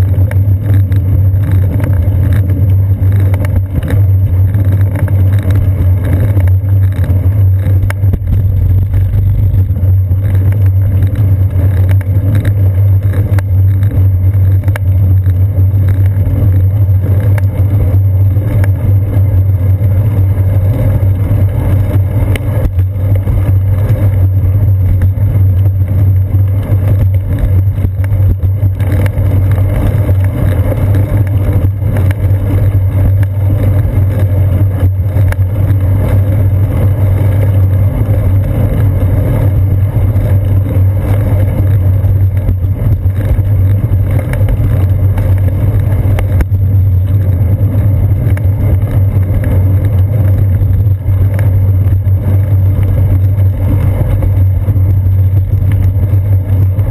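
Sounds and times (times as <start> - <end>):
bicycle road vibration: 0.0 - 56.9
wind rumble: 0.0 - 56.9.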